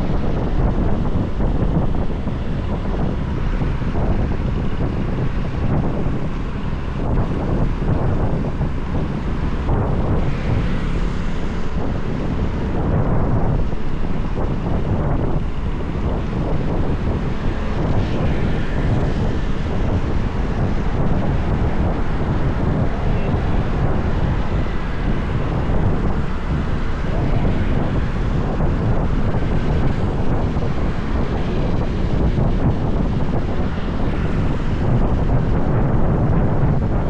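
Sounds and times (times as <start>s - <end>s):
motorbike road noise: 0.0s - 37.0s
wind on microphone: 0.0s - 37.0s.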